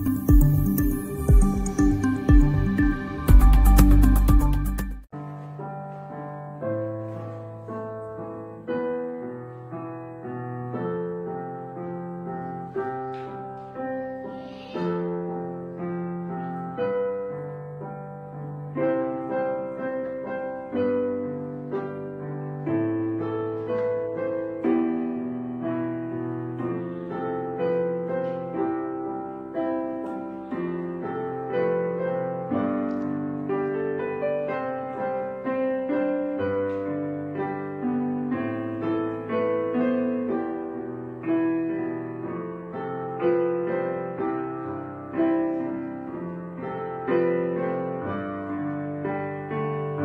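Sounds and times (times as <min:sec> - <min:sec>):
gentle piano music: 0:00.0 - 0:50.0.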